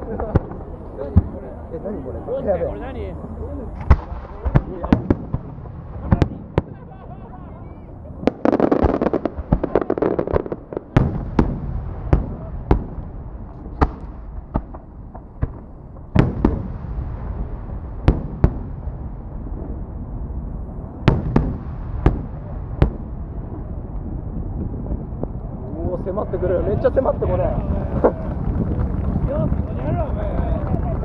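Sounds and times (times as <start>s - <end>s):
fireworks booms: 0.0s - 31.0s
fireworks popping and crackling: 0.0s - 31.0s
low rolling rumble: 0.0s - 31.0s.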